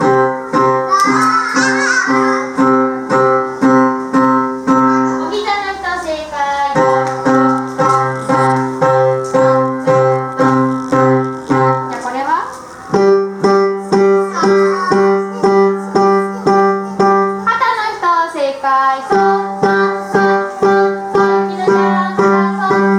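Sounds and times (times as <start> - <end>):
piano chords: 0.0 - 22.9.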